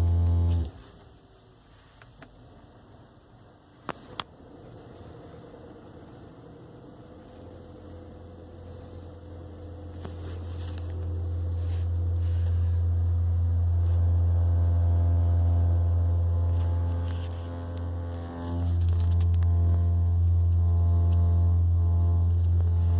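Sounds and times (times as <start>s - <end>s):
car humming: 4.0s - 22.9s.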